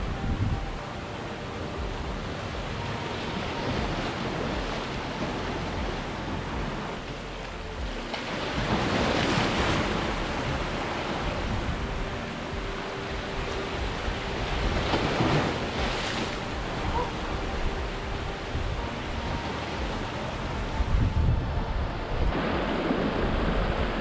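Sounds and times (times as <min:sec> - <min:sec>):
sea surf washing through rocky gully: 0:00.0 - 0:24.0.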